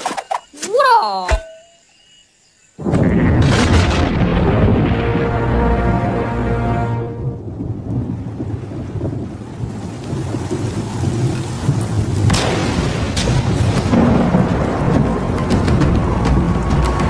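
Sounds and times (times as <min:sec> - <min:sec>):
low rumble of thunder: 0:02.8 - 0:17.0
rain: 0:02.8 - 0:17.0
sharp cracks of thunder: 0:02.8 - 0:17.0.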